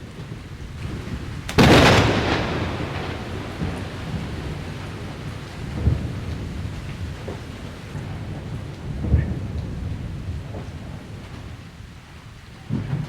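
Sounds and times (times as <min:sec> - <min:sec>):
rumbling thunder: 0:00.0 - 0:13.0
steady rain: 0:00.0 - 0:13.0.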